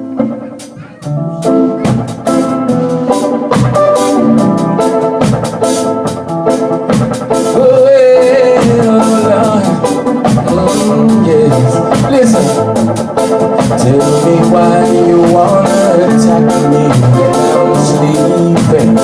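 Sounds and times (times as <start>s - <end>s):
gospel band playing: 0.0s - 19.0s
steady drum beat: 0.0s - 19.0s.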